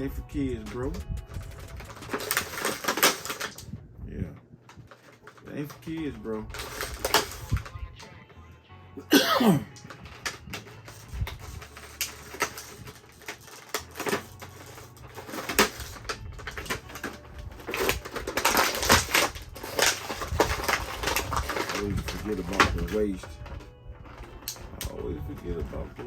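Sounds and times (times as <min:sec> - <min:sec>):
plastic packaging crinkling: 0:00.6 - 0:03.8, 0:04.6 - 0:07.8, 0:09.6 - 0:26.0
plastic parts clicking and snapping: 0:00.6 - 0:03.8, 0:04.6 - 0:08.1, 0:09.7 - 0:26.0.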